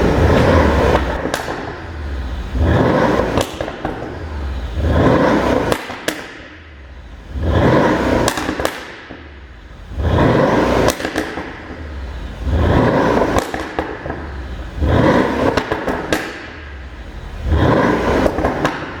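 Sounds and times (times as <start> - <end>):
car engine revving: 0.0 - 19.0
exhaust pops and crackles: 0.0 - 19.0.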